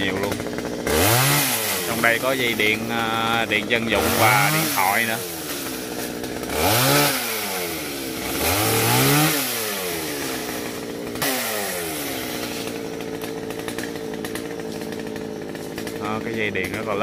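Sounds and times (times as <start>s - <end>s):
chainsaw revving and idling: 0.0s - 17.0s.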